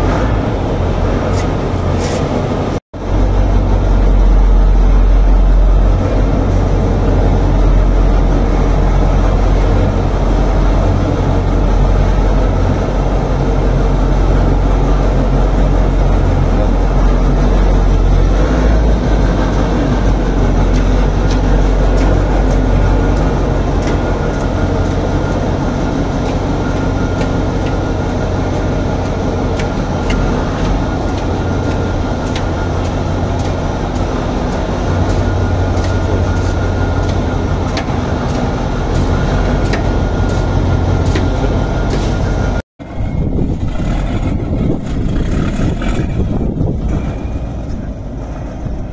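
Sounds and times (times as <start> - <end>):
diesel tractor engine humming: 0.0 - 48.9.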